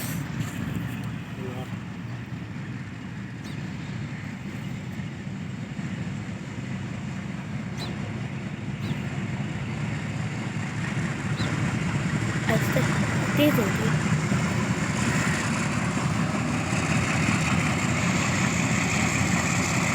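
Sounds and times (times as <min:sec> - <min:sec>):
train rumble: 0:00.0 - 0:19.9.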